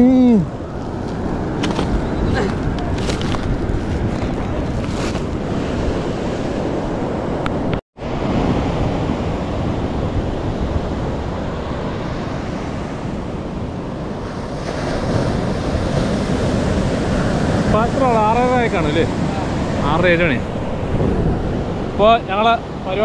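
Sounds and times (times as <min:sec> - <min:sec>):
sea surf breaking on beach: 0:00.0 - 0:23.0
wind buffeting microphone: 0:00.0 - 0:23.0.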